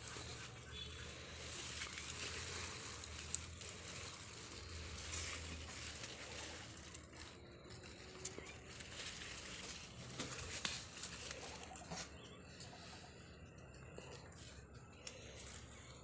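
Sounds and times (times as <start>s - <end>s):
rustling of leaves by hand: 0.0s - 16.0s.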